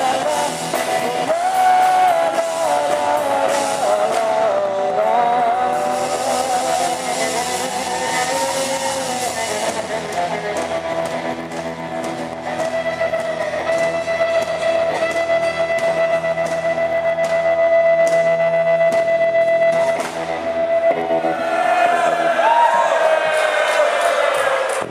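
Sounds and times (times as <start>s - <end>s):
drums: 0.0s - 24.9s
electric guitars: 0.0s - 24.9s.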